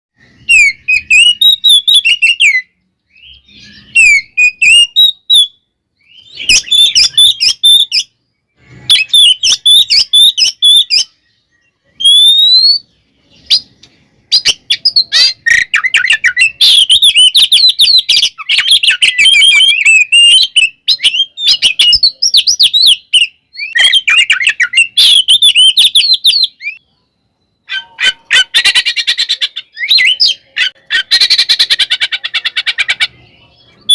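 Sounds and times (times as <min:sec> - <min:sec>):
songbird whistled song: 0:00.2 - 0:33.9.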